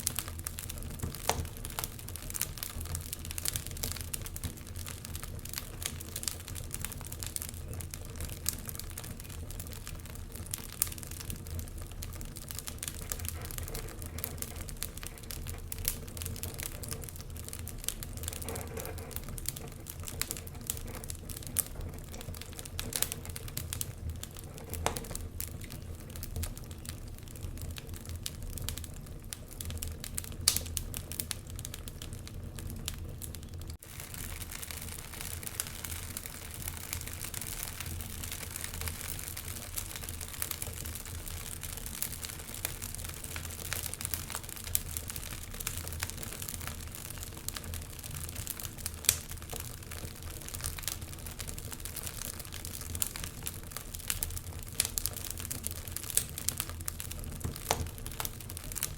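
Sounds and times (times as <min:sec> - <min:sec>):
low fire rumble: 0:00.0 - 0:58.9
sharp fire pops: 0:00.0 - 0:58.9
wood fire crackling: 0:00.0 - 0:58.9.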